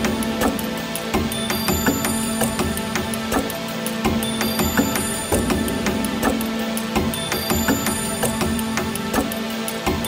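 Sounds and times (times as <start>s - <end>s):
sustained music tones: 0.0s - 10.0s
ticking clock-like percussion: 0.0s - 10.0s.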